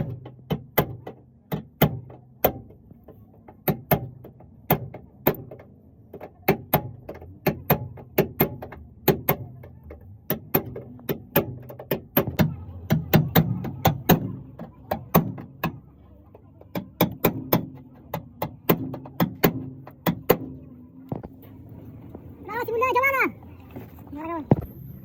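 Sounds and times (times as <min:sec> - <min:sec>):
hammer tapping car body panel: 0:00.0 - 0:21.3.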